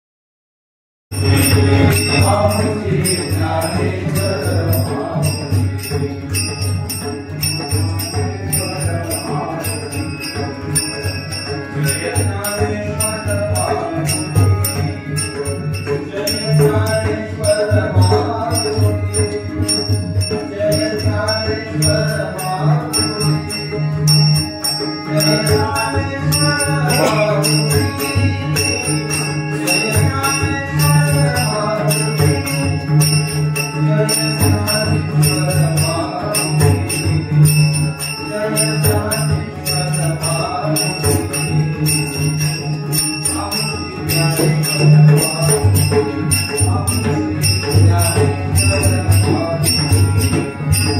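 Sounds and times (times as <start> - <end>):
jingling hand cymbals: 1.1 - 50.9
man singing devotional melody: 1.1 - 50.9.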